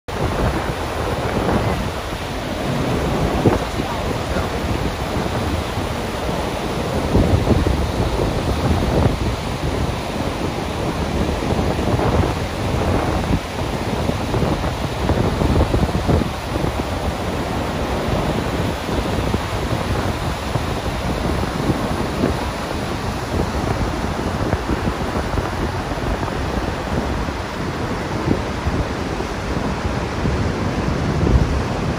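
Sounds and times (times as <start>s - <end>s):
waterfall roaring: 0.1s - 31.9s
wind buffeting microphone: 0.1s - 31.9s.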